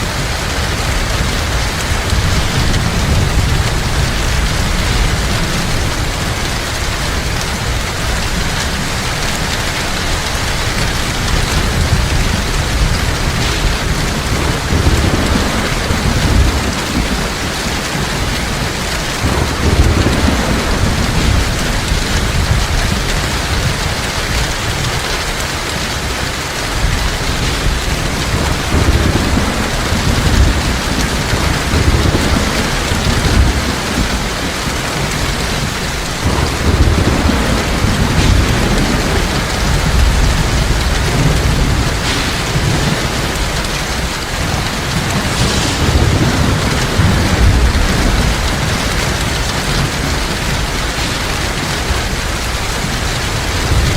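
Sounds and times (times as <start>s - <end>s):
heavy rain falling: 0.0s - 53.9s
low thunder rumbles: 0.0s - 53.9s.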